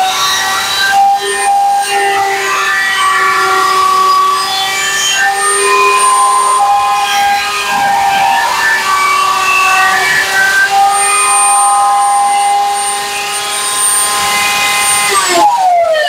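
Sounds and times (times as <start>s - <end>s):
scroll saw cutting wood: 0.2s - 15.6s.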